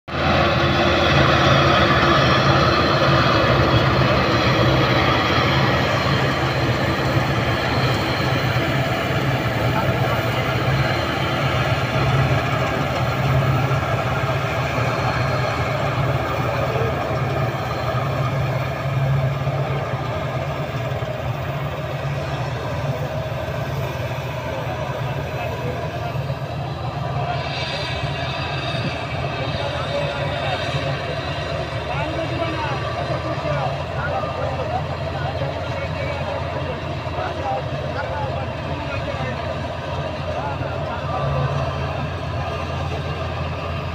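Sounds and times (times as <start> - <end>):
combine harvester running: 0.1 - 43.9.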